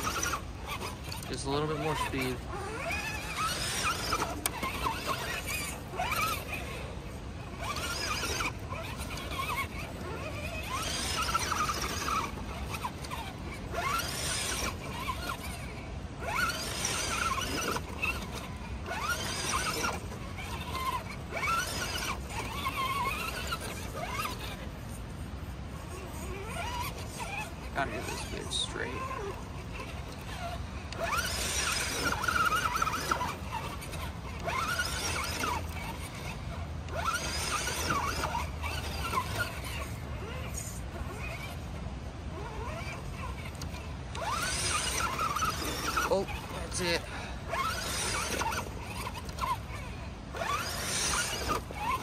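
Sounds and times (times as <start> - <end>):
electric motor and gears whining: 0.0 - 52.0.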